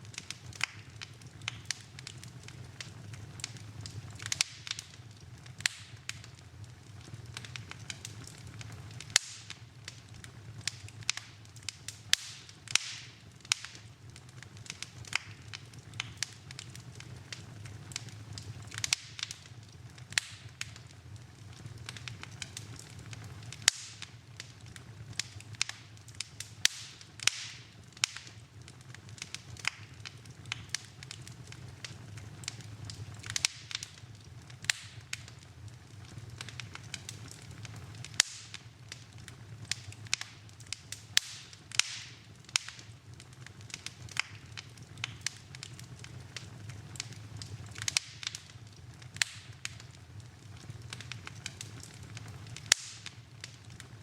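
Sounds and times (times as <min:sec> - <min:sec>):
low rumble of fire: 0:00.0 - 0:54.0
wood fire crackles and pops: 0:00.0 - 0:54.0.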